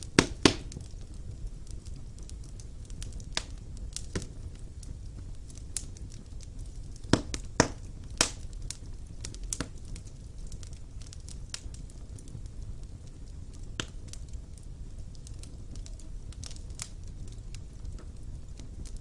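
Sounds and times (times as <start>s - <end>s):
flames rumbling: 0.0s - 19.0s
wood fire crackling and popping: 0.0s - 19.0s.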